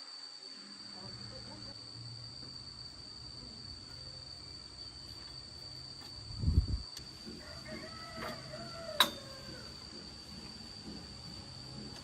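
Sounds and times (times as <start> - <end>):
insect trilling: 0.0 - 11.9.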